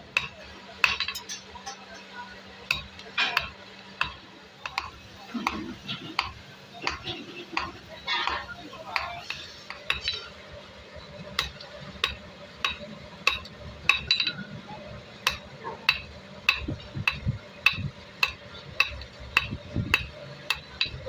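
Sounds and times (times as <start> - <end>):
hammer striking steel on anvil: 0.1 - 1.8, 2.7 - 10.3, 11.4 - 14.4, 15.2 - 21.0.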